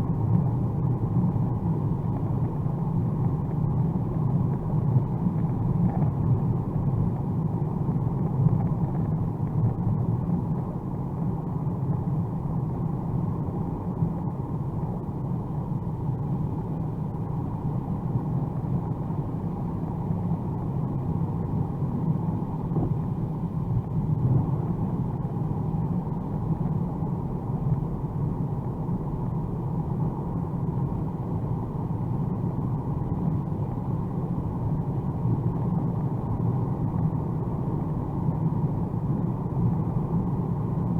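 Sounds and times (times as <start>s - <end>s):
car cabin road and engine drone: 0.0s - 40.9s.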